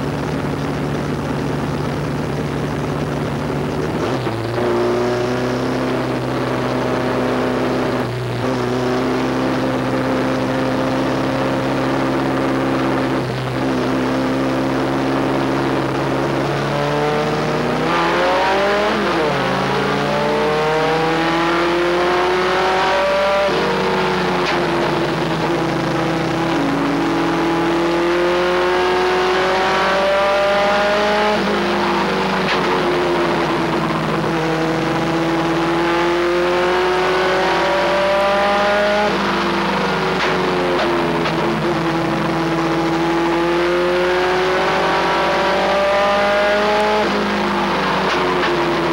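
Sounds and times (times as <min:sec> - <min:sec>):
race truck engine revving: 0:00.0 - 0:48.9.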